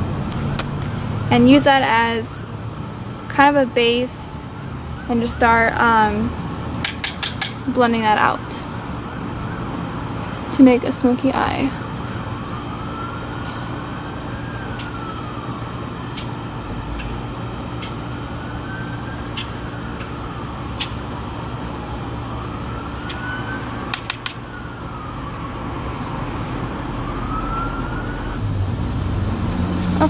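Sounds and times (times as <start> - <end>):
emergency siren wailing: 0.0 - 30.0.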